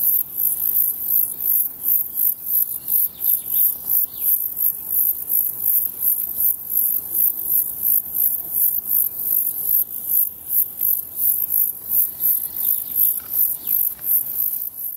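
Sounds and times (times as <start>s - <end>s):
insect high-pitched chirp: 0.0s - 14.9s.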